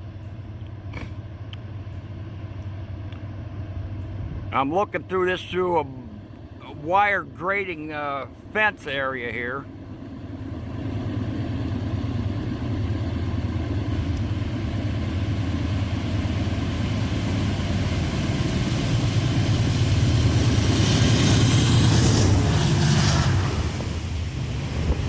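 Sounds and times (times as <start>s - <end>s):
diesel locomotive engines rumbling: 0.0s - 25.0s.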